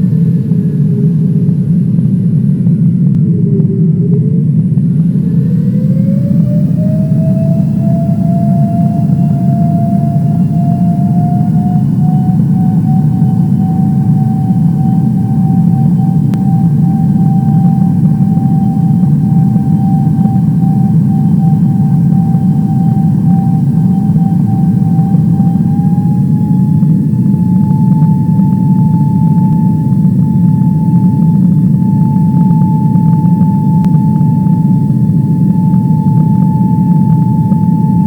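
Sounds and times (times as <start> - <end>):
airliner engine rumble and whine: 0.0 - 38.0.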